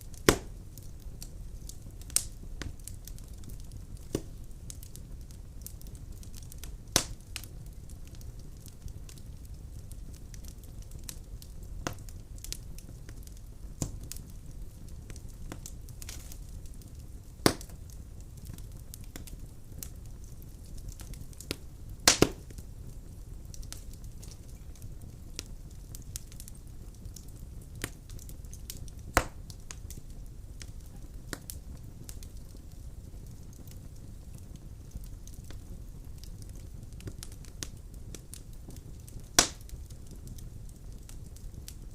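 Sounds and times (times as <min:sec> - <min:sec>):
fire burning in fireplace: 0:00.0 - 0:41.9
wood crackling and popping: 0:00.0 - 0:41.9.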